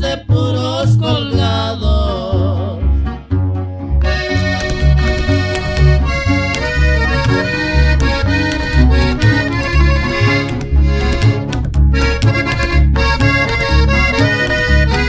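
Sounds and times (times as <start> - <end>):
accordion melody: 0.0 - 15.0
bass notes on a steady beat: 0.0 - 15.0.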